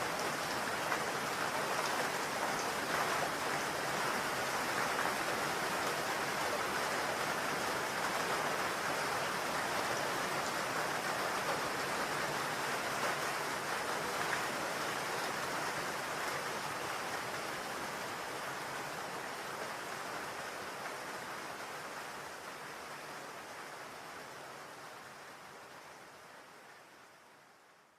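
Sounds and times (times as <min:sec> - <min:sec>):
rain falling on a roof: 0:00.0 - 0:27.9.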